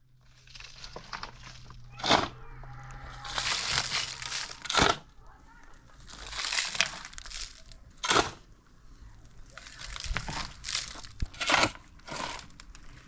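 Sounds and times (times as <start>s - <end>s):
dry material rustling and crunching: 0.1s - 13.0s.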